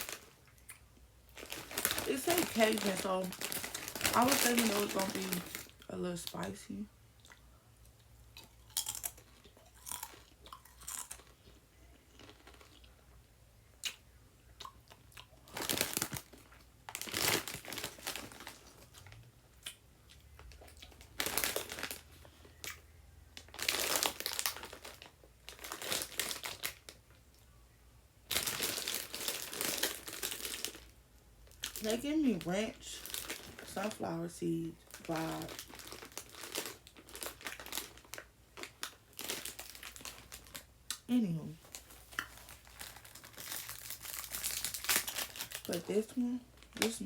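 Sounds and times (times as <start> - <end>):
potato chips crunching: 0.0 - 5.9, 7.2 - 13.0, 14.6 - 27.0, 28.3 - 30.9, 31.5 - 34.1, 34.8 - 47.0.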